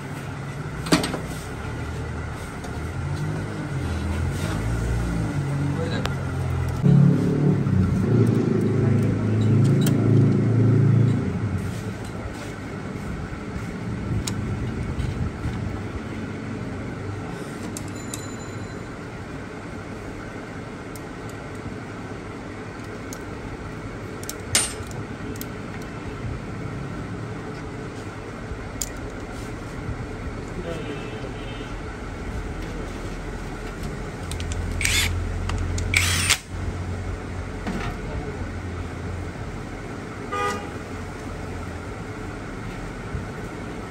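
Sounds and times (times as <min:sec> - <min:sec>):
steady background hum: 0:00.0 - 0:43.9.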